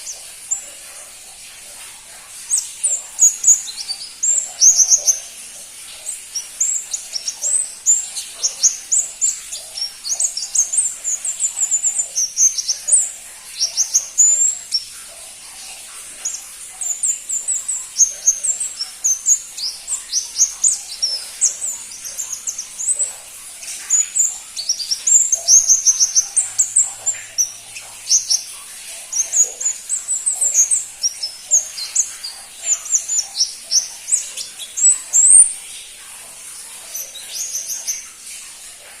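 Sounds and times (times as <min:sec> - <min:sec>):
bird singing high chirps: 0:02.4 - 0:14.9, 0:16.1 - 0:35.6, 0:36.8 - 0:38.0.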